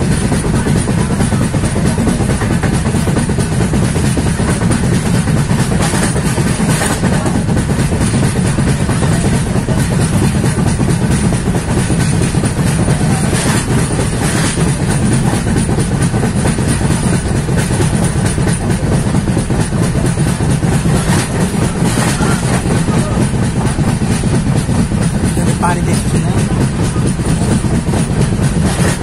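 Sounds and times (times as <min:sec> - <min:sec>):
train wheels rumbling on rails: 0:00.0 - 0:29.0
wheels clacking over rail joints: 0:00.0 - 0:29.0.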